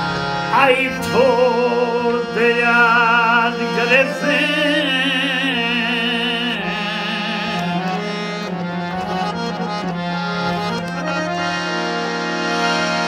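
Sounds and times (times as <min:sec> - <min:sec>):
harmonium playing over drone: 0:00.0 - 0:13.0.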